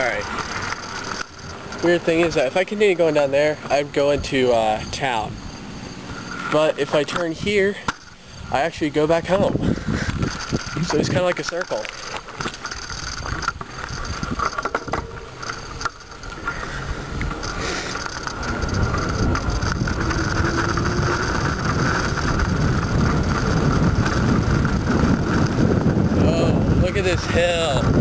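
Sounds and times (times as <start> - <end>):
wind rushing over microphone: 0.0 - 11.4, 12.9 - 28.0.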